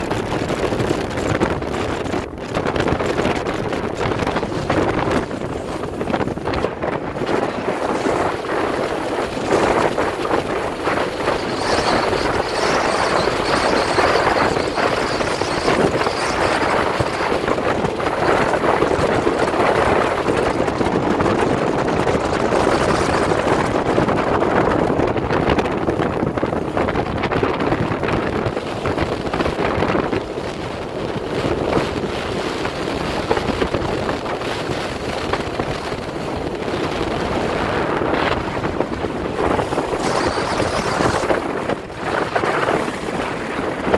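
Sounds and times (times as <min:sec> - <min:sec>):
outboard motor running: 0:00.0 - 0:43.9
wind rushing over microphone: 0:00.0 - 0:43.9
hull slapping water: 0:00.1 - 0:43.9.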